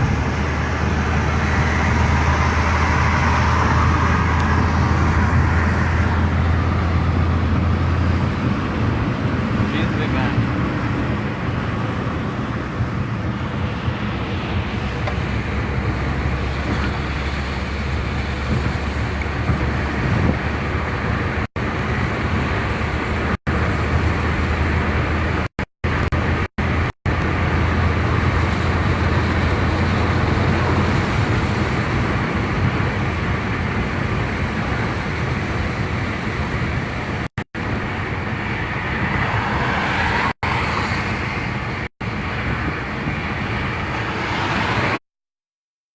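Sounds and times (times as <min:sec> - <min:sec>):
car driving road noise: 0:00.0 - 0:45.0.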